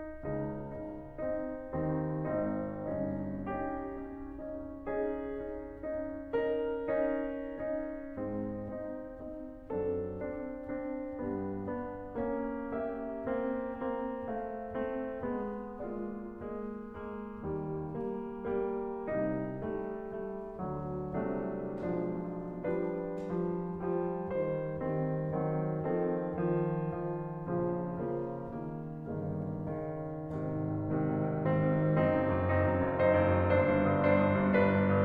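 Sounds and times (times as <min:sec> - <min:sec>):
gentle piano melody: 0:00.0 - 0:35.0.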